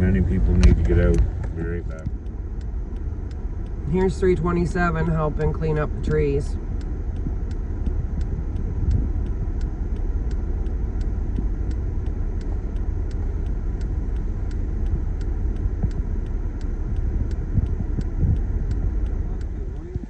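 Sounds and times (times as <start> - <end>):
light repeating ticking: 0.0 - 20.0
vehicle engine low rumble: 0.0 - 20.0.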